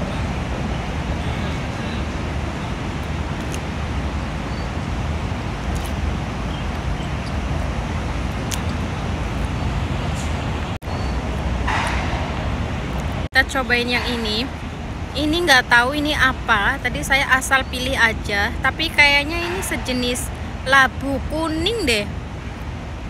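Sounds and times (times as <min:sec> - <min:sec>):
traffic rumble with hiss: 0:00.0 - 0:23.0.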